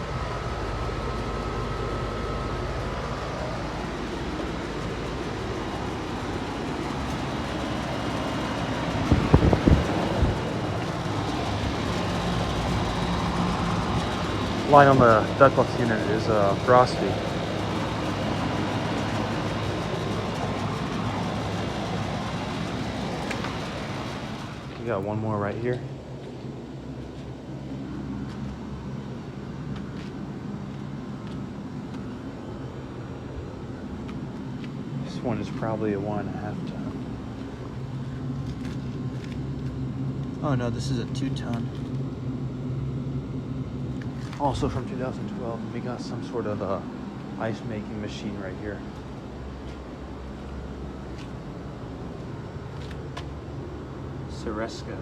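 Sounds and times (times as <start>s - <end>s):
condenser fans rushing: 0.0s - 55.0s
low compressor hum: 0.0s - 55.0s.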